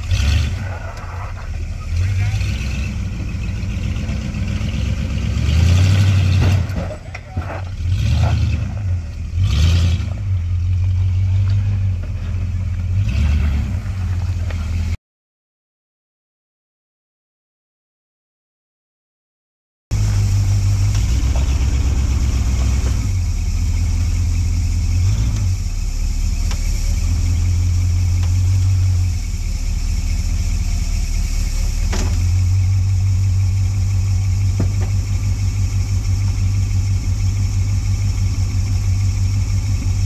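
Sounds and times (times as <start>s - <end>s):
off-road vehicle engine revving: 0.0s - 15.0s, 19.9s - 40.0s.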